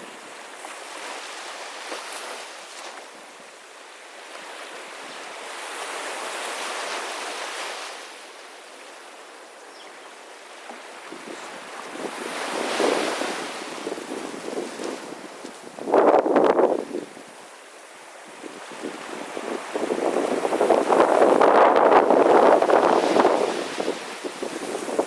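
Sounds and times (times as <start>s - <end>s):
sea waves washing onto beach: 0.0s - 25.0s.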